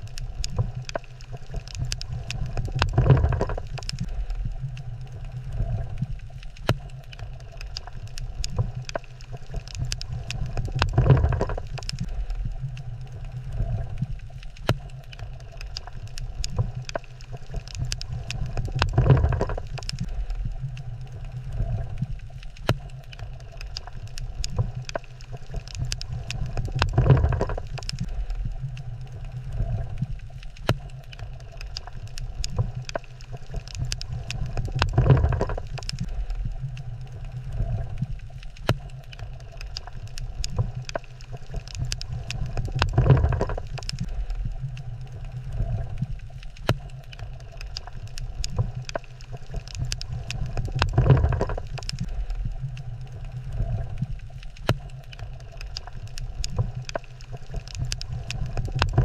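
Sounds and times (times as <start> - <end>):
low underwater rumble: 0.0 - 59.0
sharp underwater clicks: 0.0 - 59.0.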